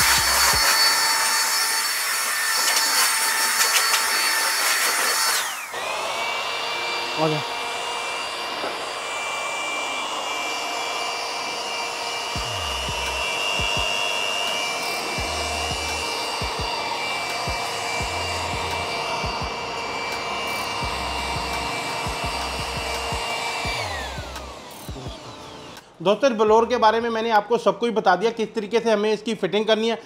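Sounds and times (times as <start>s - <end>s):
electric air blower whine: 0.0s - 26.0s.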